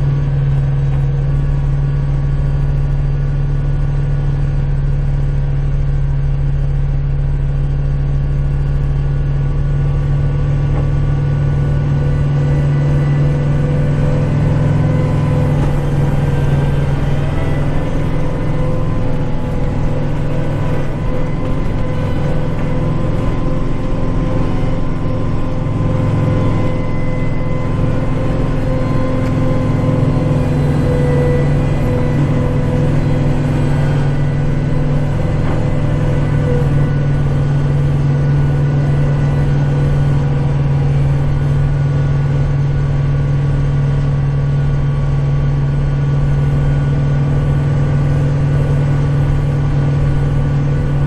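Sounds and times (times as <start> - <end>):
engine whine: 0.0 - 51.0
tractor diesel engine running: 0.0 - 51.0.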